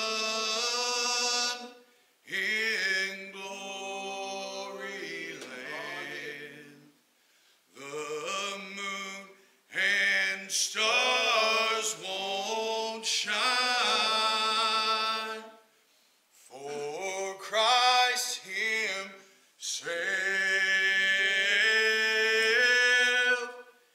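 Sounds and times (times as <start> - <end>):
group singing unaccompanied: 0.0 - 7.0, 7.8 - 15.6, 16.5 - 19.1, 19.7 - 23.6.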